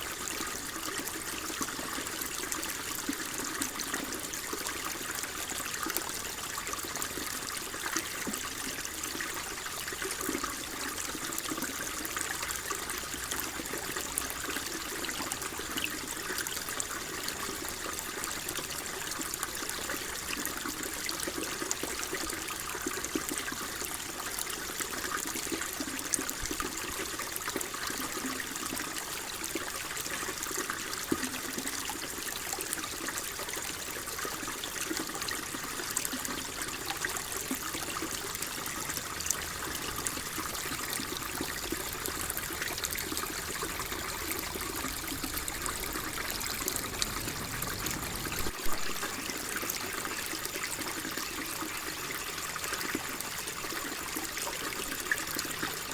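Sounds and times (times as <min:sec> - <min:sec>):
water flowing and trickling: 0:00.0 - 0:55.9.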